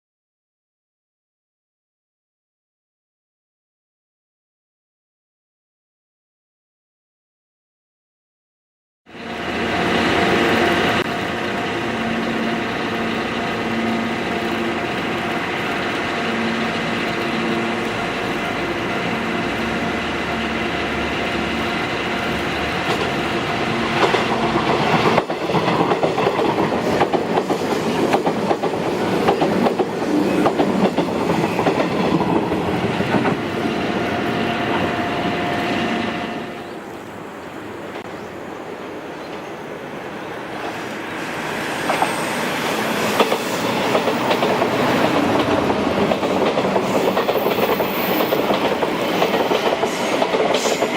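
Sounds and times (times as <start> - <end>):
electric train running hum: 9.1 - 50.9.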